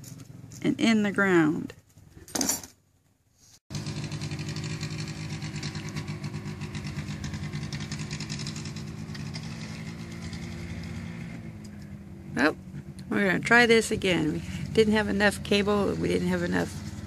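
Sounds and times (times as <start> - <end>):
small engine idling: 0.0 - 0.6, 3.7 - 17.0.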